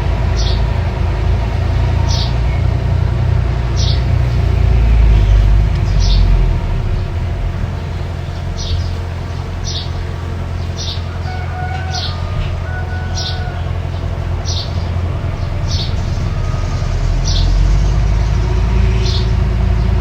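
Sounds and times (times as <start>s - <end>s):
diesel engine rumbling: 0.0s - 20.0s
bird chirping: 0.2s - 0.7s, 1.7s - 20.0s.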